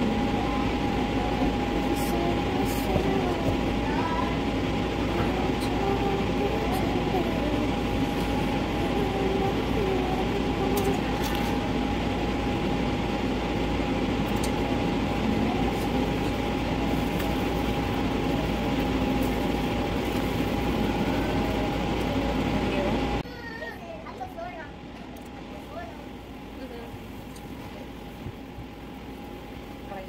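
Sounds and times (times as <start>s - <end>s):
machine hum with whining tone: 0.0s - 30.0s.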